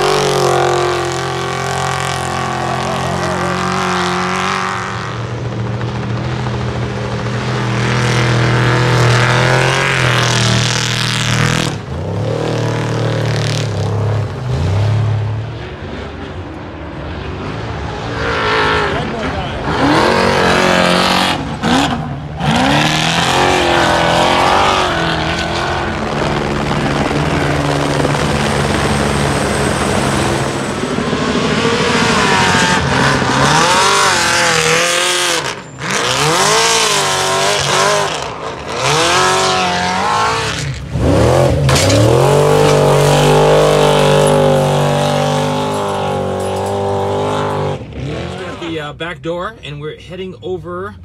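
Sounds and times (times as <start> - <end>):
truck engines revving hard: 0.0 - 51.0.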